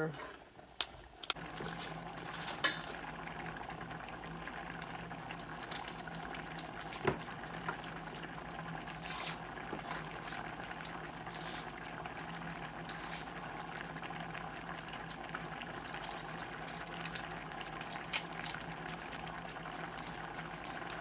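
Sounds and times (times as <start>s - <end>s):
faint steady hum: 0.0s - 21.0s
pots bubbling on stovetop: 0.0s - 21.0s.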